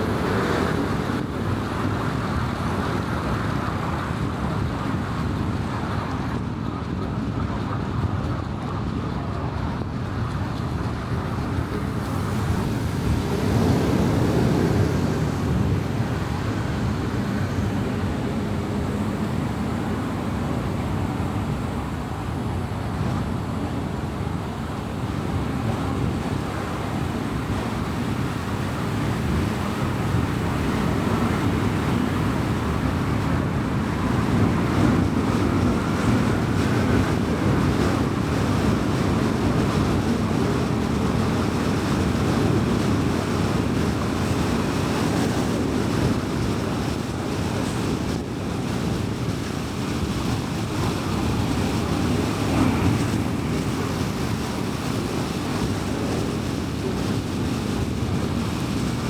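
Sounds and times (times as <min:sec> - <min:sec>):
tyre and road noise: 0:07.1 - 0:59.0.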